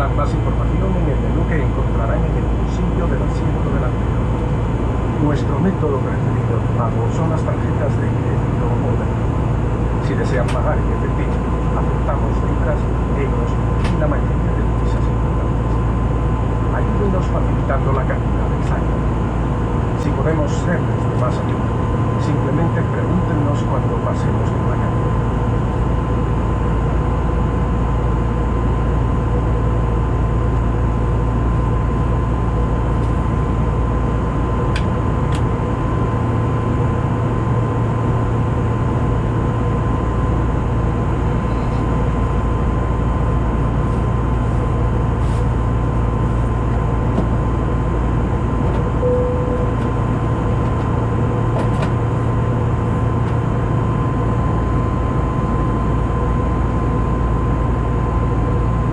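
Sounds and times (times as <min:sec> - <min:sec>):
aircraft engine drone: 0:00.0 - 0:58.9
steady hum: 0:00.0 - 0:58.9.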